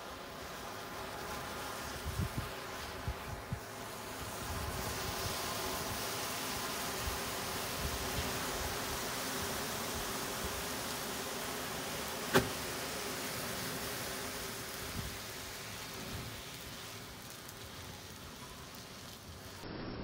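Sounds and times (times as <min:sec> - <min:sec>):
fire hissing: 0:00.0 - 0:19.7
sharp crack of fire: 0:00.0 - 0:19.7.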